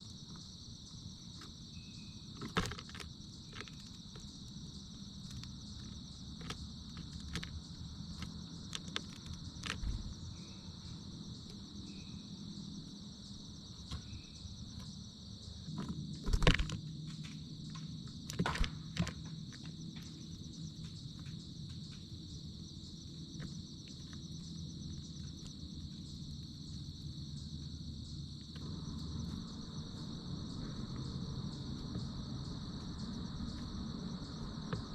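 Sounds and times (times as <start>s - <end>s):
insects trilling: 0.0s - 34.9s
low background rumble: 3.1s - 34.9s.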